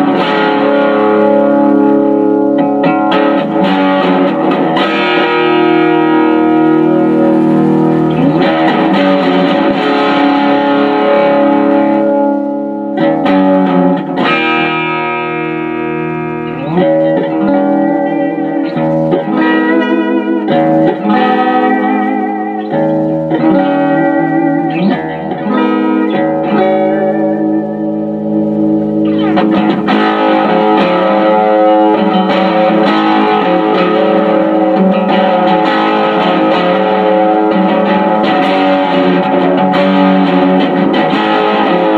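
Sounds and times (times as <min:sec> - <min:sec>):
distorted electric guitar: 0:00.0 - 0:41.9.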